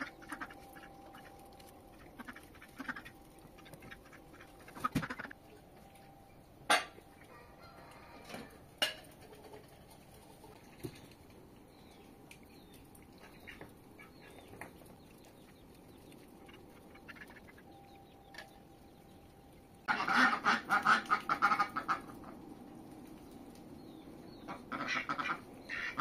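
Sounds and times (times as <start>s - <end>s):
faint bird and poultry calls: 0.0s - 26.0s.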